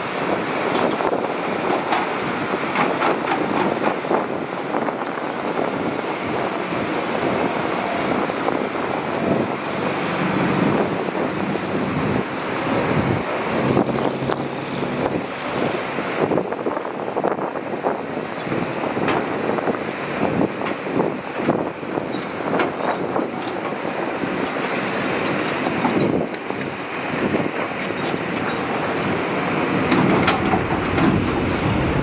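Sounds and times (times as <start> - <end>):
excavator diesel engine running: 0.0 - 32.0
excavator clattering: 0.2 - 15.9, 18.4 - 26.8, 27.4 - 32.0.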